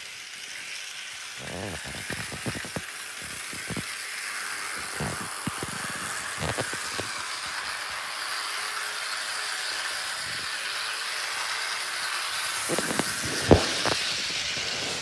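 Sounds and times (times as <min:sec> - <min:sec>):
model train motor whirring: 0:00.0 - 0:15.0.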